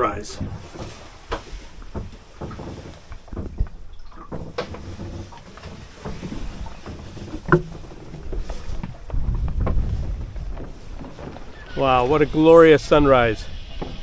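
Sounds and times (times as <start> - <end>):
water noise: 0.0 - 14.0
wind: 0.0 - 14.0
footsteps clattering on wooden steps: 0.3 - 12.0.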